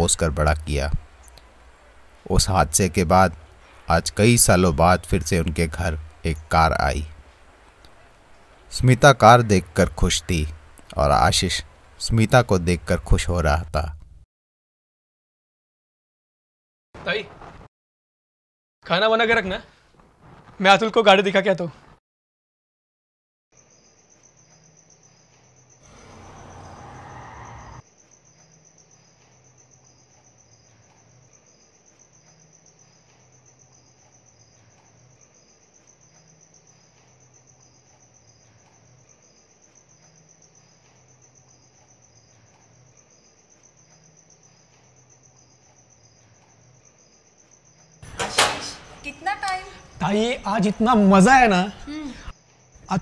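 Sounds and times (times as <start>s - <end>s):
crickets chirping: 0.0s - 14.2s, 23.6s - 53.0s.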